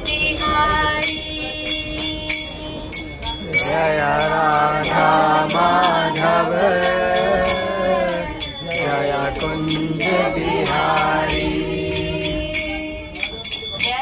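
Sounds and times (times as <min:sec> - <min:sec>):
group singing a devotional chant: 0:00.0 - 0:14.0
jingling hand percussion: 0:00.0 - 0:14.0.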